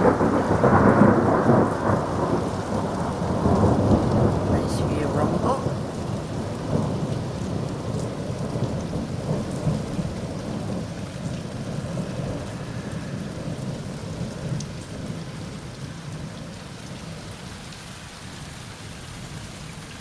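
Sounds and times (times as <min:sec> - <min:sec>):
thunder rumbling: 0:00.0 - 0:17.2
steady rain falling: 0:00.0 - 0:20.0.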